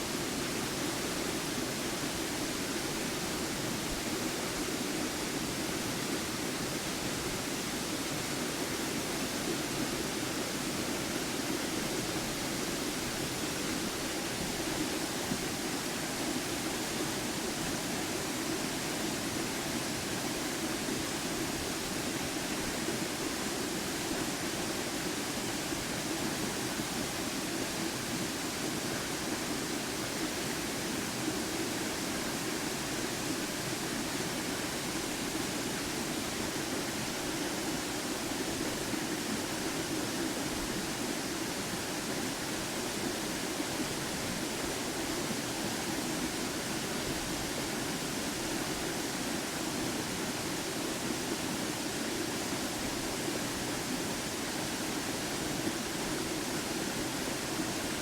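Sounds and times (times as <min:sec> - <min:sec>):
waterfall: 0:00.0 - 0:58.0.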